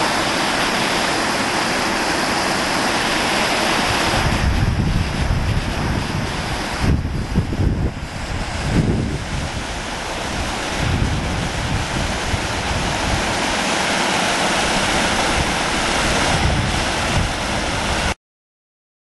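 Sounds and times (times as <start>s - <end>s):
stream rushing over rock: 0.0s - 18.2s
wind buffeting microphone: 1.3s - 18.2s.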